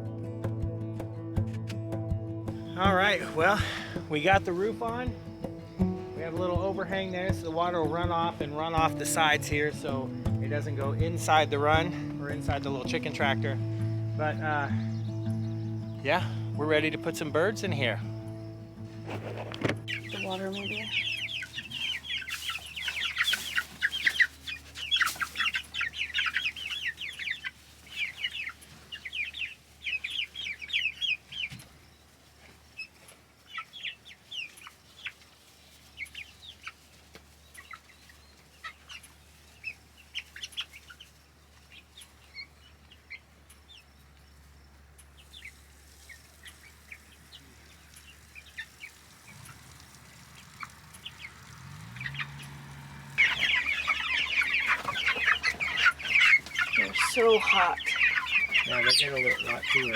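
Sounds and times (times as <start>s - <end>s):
young chickens peeping and chirping: 2.5s - 59.9s.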